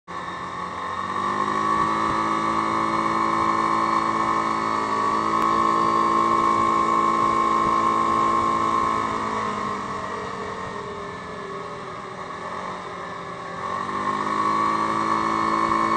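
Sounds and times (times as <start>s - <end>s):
atv engine running with whine: 0.1s - 15.9s.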